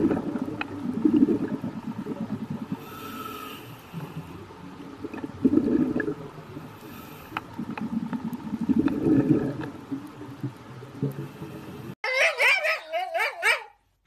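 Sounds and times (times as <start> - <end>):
underwater air bubbling: 0.0 - 12.0.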